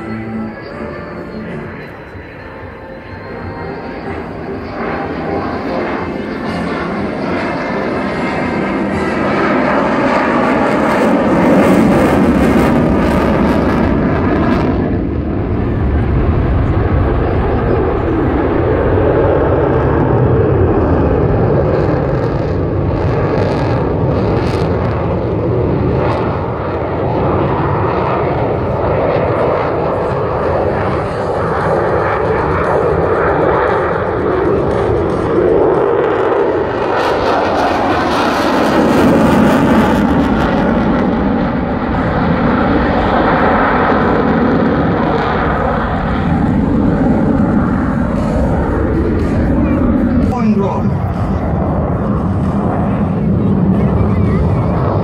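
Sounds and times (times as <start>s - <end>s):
distant jet aircraft passing: 0.0s - 55.0s.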